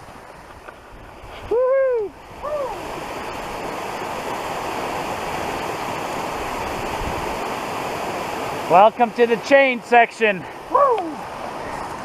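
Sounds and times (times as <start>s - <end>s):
rushing waterfall: 0.0s - 12.0s.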